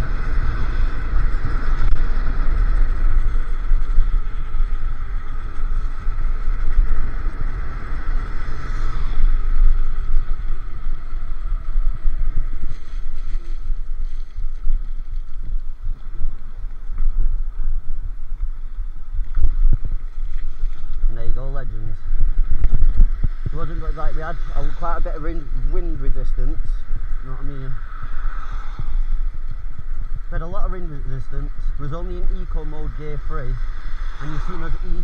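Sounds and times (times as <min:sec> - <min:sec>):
steady high whine: 0:00.0 - 0:35.0
wind buffeting microphone: 0:00.0 - 0:35.0.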